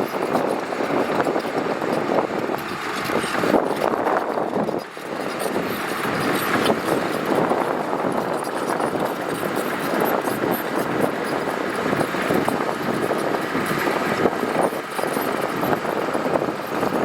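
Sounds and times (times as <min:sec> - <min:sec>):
heavy machinery engine drone: 0:00.0 - 0:17.0
rattling clatter: 0:00.0 - 0:17.0.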